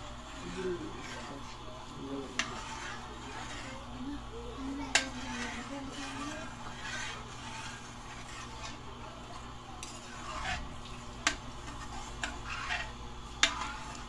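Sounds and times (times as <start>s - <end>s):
metal ladle scraping wok: 0.0s - 14.0s.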